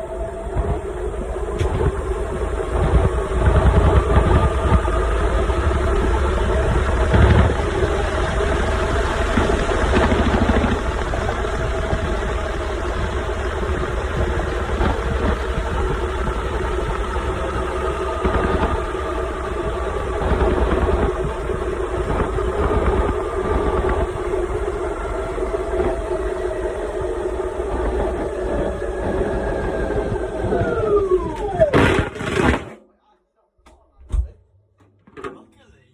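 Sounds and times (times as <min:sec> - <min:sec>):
washing machine spinning: 0:00.0 - 0:32.7.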